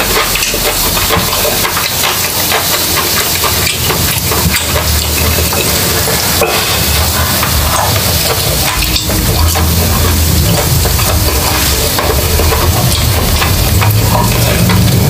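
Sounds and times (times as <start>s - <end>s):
low hum: 0.0s - 15.0s
meat sizzling on a grill plate: 0.0s - 15.0s.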